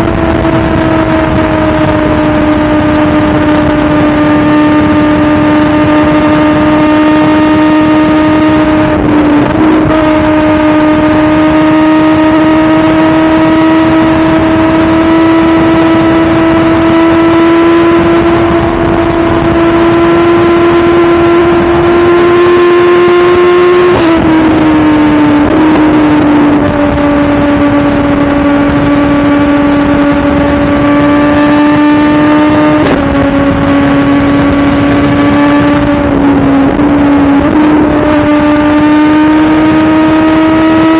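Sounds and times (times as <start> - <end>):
motorcycle engine at high revs: 0.0 - 40.9
wind rush: 0.0 - 40.9.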